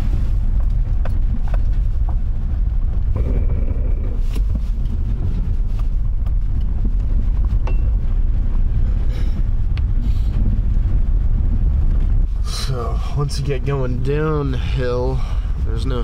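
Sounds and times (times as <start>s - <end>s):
tyres and engine rumbling: 0.0s - 16.0s.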